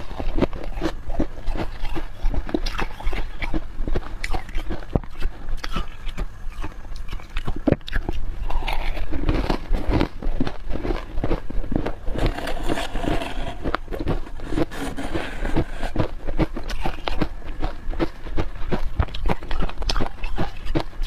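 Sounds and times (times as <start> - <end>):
frost crunching and squeaking: 0.0 - 21.0.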